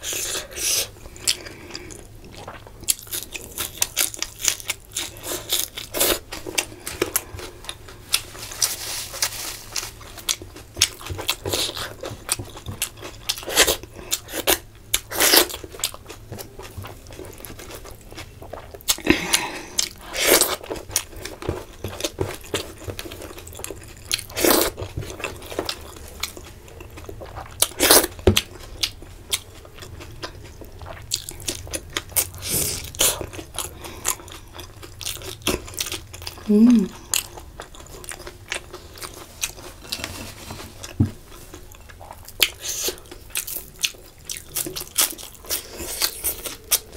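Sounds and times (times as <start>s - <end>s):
person chewing and crunching food: 0.0s - 46.9s.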